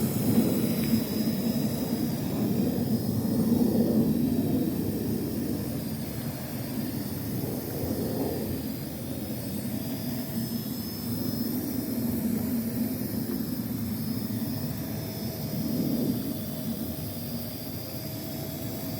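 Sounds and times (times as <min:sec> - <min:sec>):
quadcopter buzzing: 0:00.0 - 0:18.9.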